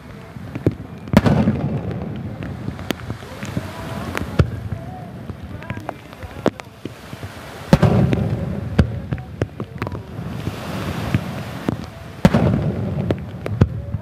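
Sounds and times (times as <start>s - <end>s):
fireworks booming: 0.0s - 14.0s
small firework pops: 0.0s - 14.0s.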